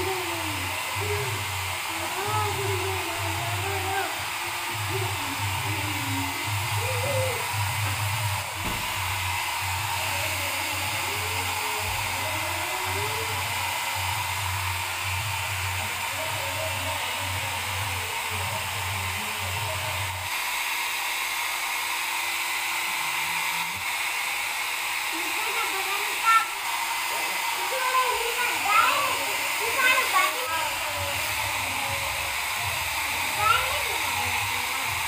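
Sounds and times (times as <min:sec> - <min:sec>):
hair dryer blowing: 0:00.0 - 0:35.0.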